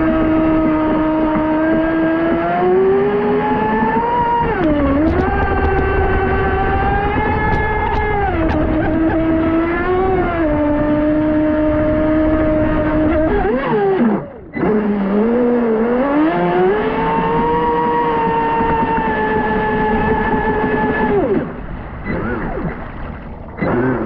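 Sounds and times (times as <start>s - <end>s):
rc boat motor whining: 0.0s - 24.0s.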